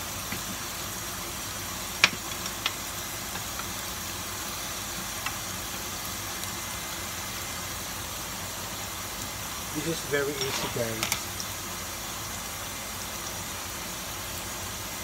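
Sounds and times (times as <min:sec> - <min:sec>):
onion sizzling in oil: 0:00.0 - 0:15.0.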